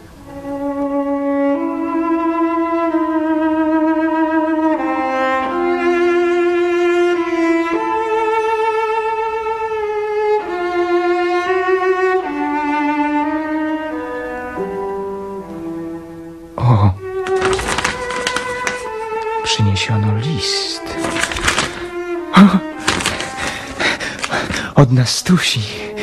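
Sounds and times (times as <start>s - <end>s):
bowed strings slow melody: 0.0s - 26.0s.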